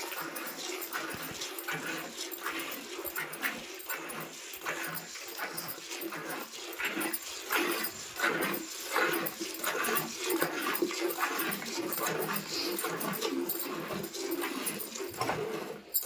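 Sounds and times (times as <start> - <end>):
milk squirting into a pail: 0.0 - 16.0.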